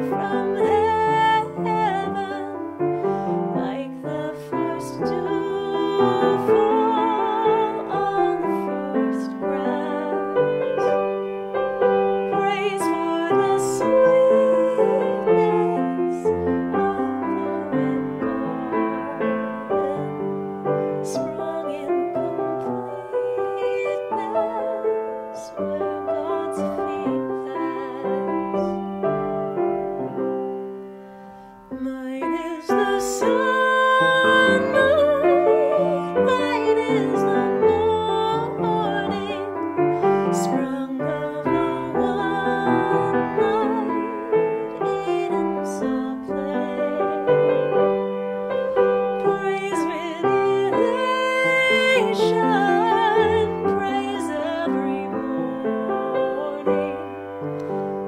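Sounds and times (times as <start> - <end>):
woman singing with vibrato: 0.0 - 11.2, 11.8 - 29.4, 31.7 - 48.0, 48.8 - 57.3
grand piano: 0.0 - 58.0.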